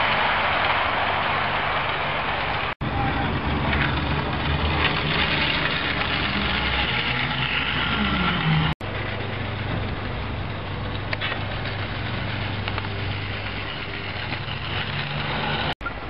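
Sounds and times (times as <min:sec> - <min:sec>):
model locomotive humming: 0:00.0 - 0:15.8.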